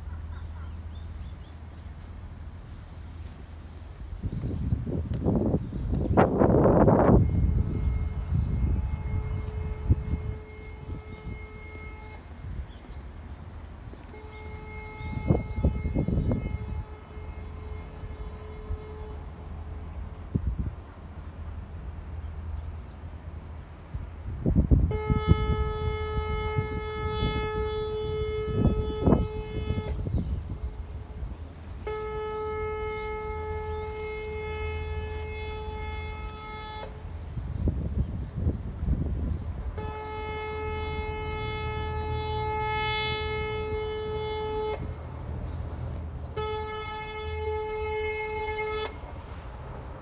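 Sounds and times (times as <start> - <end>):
low rumble with gusts: 0.0 - 50.0
boat horn blast: 4.2 - 50.0.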